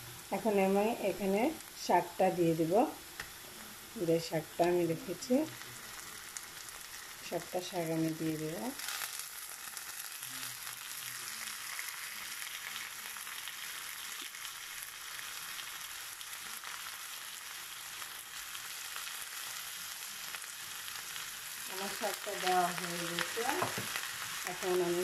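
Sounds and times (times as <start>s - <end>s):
onions sizzling in frying pan: 0.0s - 25.0s.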